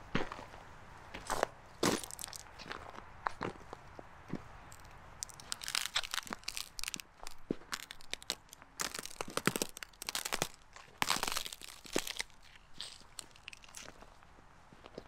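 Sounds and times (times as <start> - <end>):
footsteps crunching through snow: 0.0 - 14.2.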